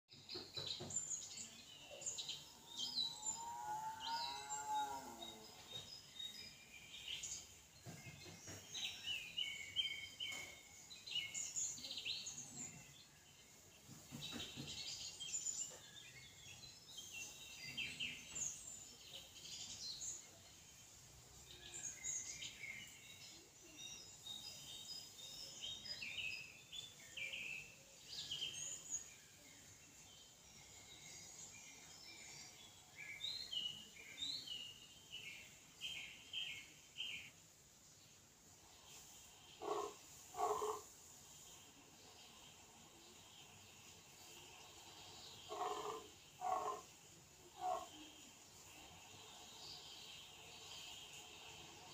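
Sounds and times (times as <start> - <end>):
small birds chirping: 0.1 - 51.9.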